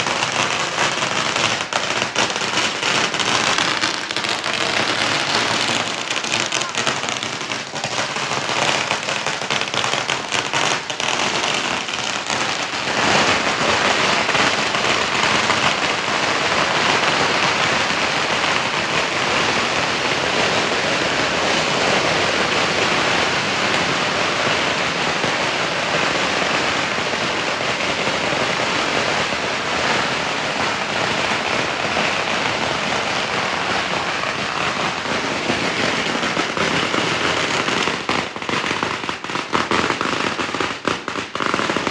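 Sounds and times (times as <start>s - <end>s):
firecrackers crackling: 0.0s - 41.9s.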